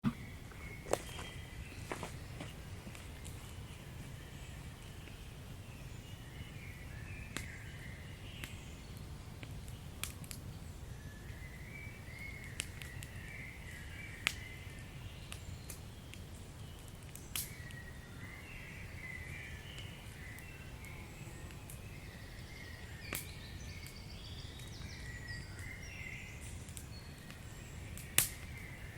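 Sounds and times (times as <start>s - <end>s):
wood fire popping: 0.0s - 28.9s.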